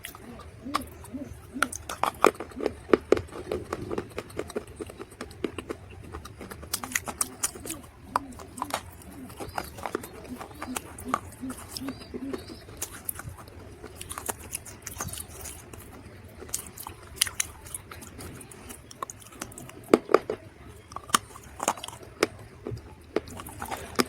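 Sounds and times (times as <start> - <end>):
dried mud being chewed: 0.0 - 24.0.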